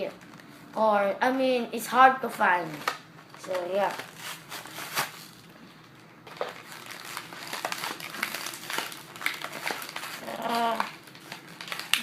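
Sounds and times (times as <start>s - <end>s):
hard plastic packaging crackling: 2.3s - 12.0s.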